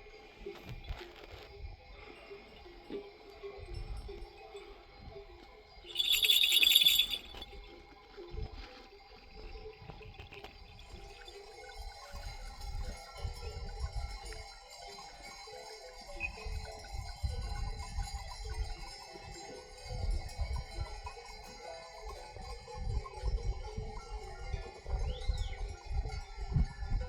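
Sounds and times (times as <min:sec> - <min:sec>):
animal bells clanking and jingling: 0:00.0 - 0:27.0.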